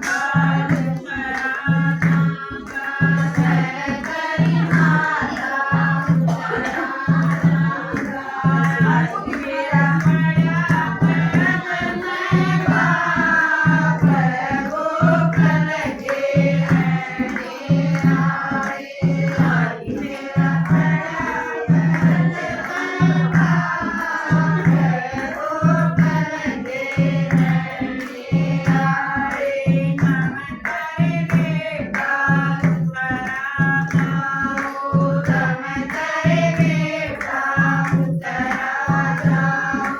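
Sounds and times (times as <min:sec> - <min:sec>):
devotional song singing: 0:00.0 - 0:39.9
drum rhythm: 0:00.0 - 0:39.9.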